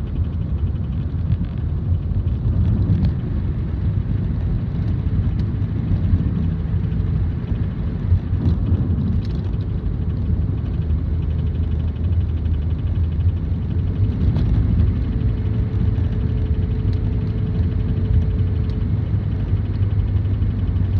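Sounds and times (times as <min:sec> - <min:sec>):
car running low rumble: 0:00.0 - 0:20.9
faint steady whine: 0:00.0 - 0:20.9.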